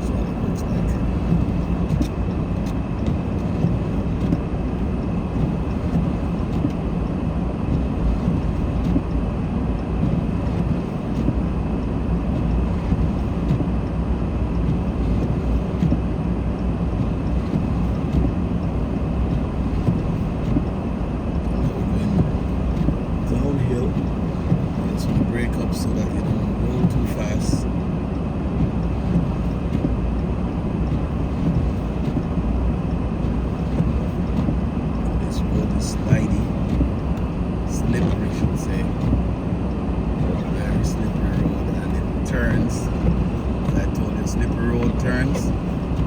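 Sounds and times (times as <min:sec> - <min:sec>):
car driving on snow: 0:00.0 - 0:46.0.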